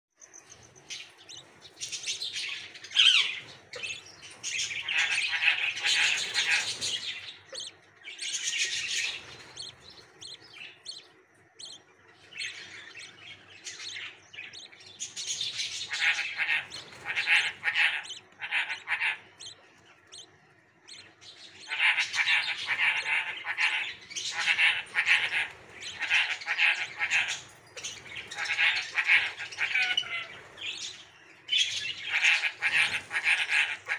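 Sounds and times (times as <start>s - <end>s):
nestlings chirping: 0.2s - 33.9s.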